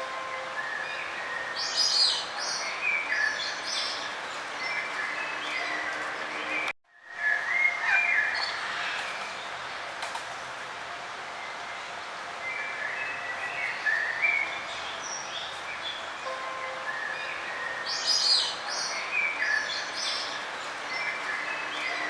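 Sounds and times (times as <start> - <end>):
songbirds chirping and warbling: 0.0 - 10.6, 11.3 - 22.0
outdoor background noise: 0.0 - 22.0.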